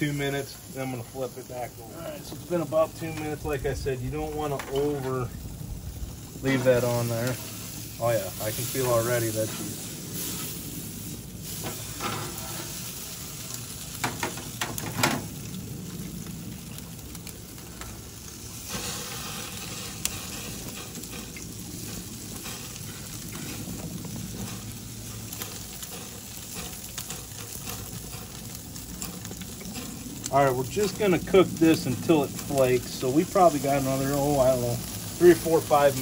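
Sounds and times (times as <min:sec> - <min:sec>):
fish sizzling on a grill: 0:00.0 - 0:36.0.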